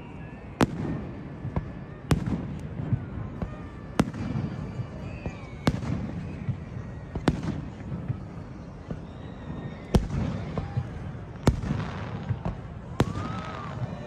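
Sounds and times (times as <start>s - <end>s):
fireworks bangs: 0.5s - 14.0s.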